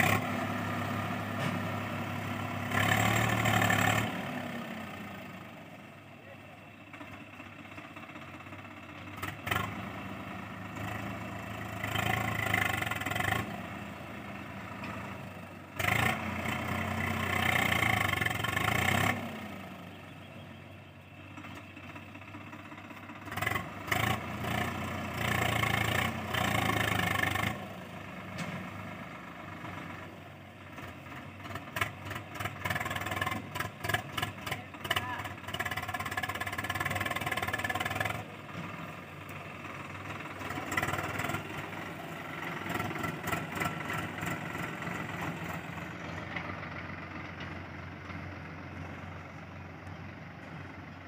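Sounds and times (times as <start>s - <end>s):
tractor diesel engine revving: 0.0s - 51.0s.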